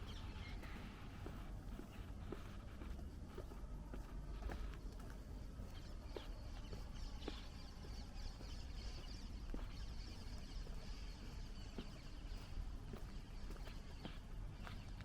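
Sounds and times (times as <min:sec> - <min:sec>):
faint footsteps: 0:00.0 - 0:15.0
small birds chirping: 0:00.0 - 0:15.0.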